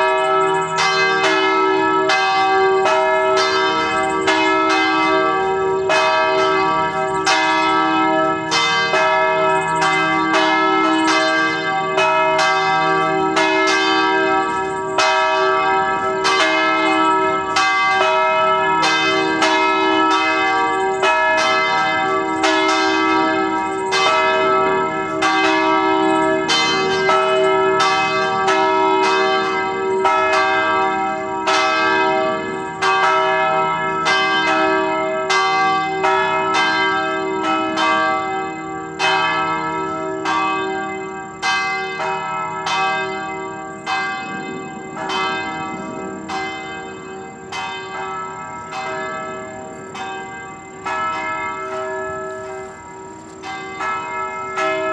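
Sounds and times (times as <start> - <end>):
church bells ringing: 0.0 - 54.9.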